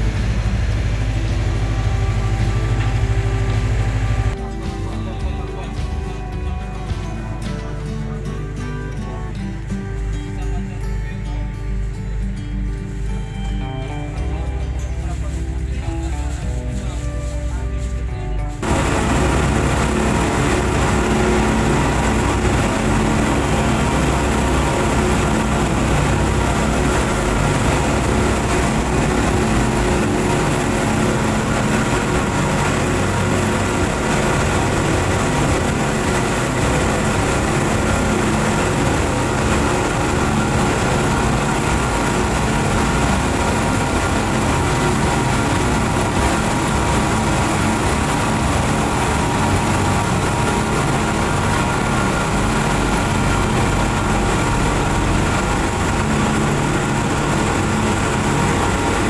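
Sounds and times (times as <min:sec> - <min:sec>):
churning wake rushing: 0:00.0 - 0:59.0
outboard motors droning: 0:00.0 - 0:59.0.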